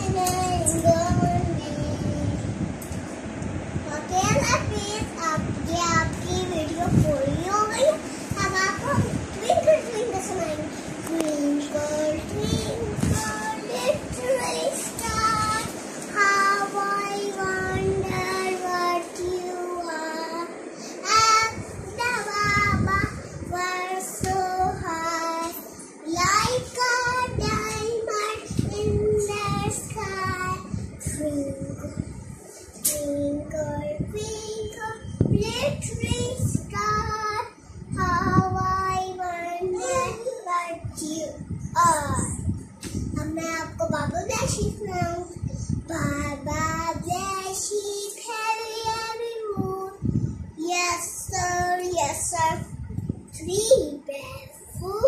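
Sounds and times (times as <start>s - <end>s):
girl singing: 0.0s - 2.9s, 3.8s - 32.2s, 32.8s - 55.0s.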